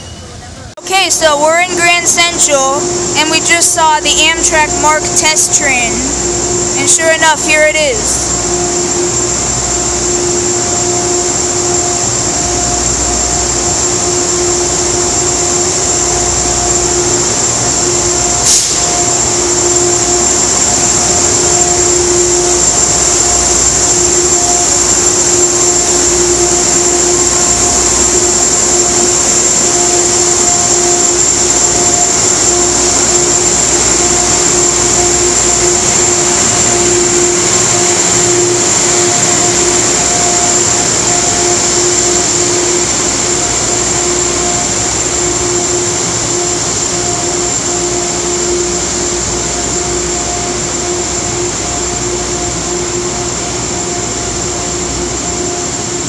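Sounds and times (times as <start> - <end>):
locomotive drone with high whine: 0.0 - 56.0
low hum: 0.8 - 56.0.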